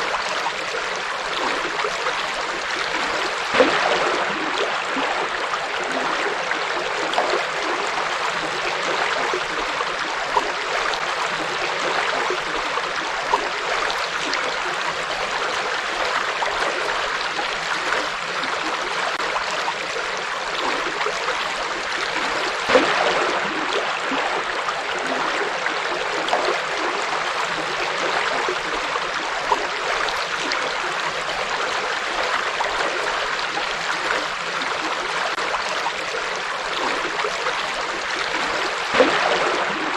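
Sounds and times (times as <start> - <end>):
water splash: 0.0 - 14.8, 20.5 - 39.9
river water flowing over rocks: 0.0 - 39.9.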